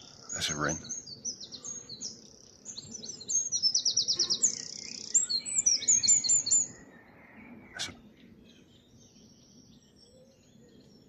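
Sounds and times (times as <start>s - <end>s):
wren singing trills: 0.0s - 11.0s.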